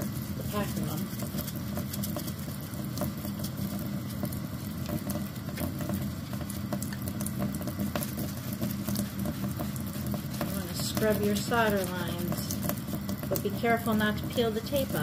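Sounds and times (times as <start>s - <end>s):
small clicks and splashes: 0.0s - 15.0s
toothbrush scrubbing: 0.0s - 15.0s.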